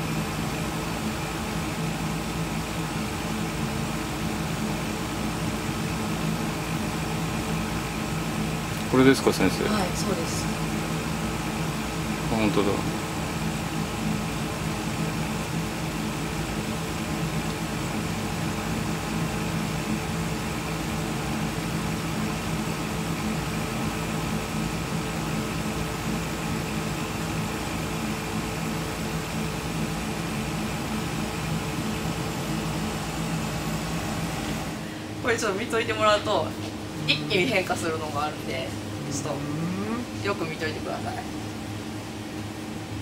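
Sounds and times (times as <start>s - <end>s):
fan whirring: 0.0s - 43.0s.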